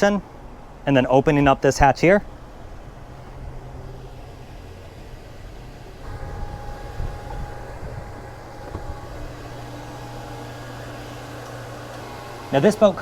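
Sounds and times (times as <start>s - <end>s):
high whine: 0.0s - 13.0s
low machinery hum: 0.0s - 13.0s.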